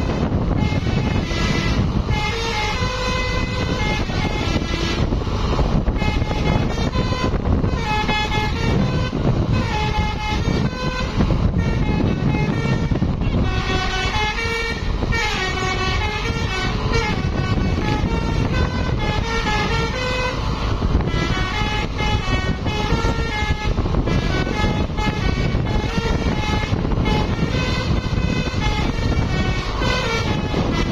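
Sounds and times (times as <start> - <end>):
musical air horn tune: 0.0 - 5.1, 5.9 - 30.9
bus engine rumble: 0.0 - 30.9.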